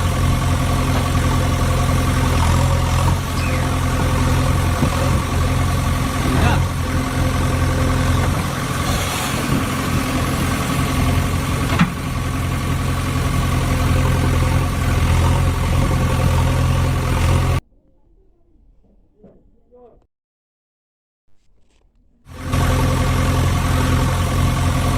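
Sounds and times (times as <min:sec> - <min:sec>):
engine idling: 0:00.0 - 0:17.6, 0:22.3 - 0:24.9.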